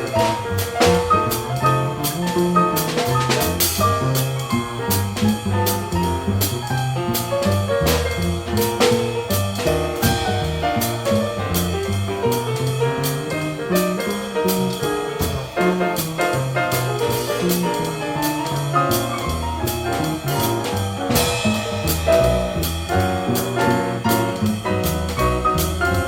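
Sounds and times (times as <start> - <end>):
double bass: 0.0 - 26.0
drum kit cymbals: 0.0 - 26.0
piano: 0.0 - 26.0.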